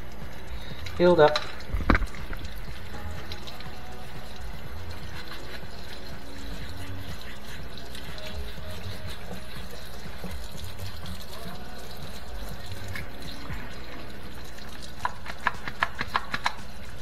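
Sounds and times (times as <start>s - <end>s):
water pouring and trickling: 0.0s - 17.0s.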